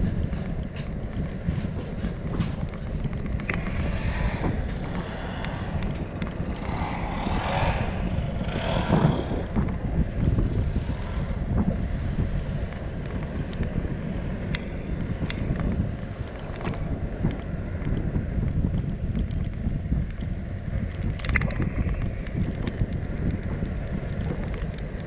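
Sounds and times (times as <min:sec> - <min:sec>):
steady low rumble: 0:00.0 - 0:25.0
wind buffeting microphone: 0:00.0 - 0:25.0.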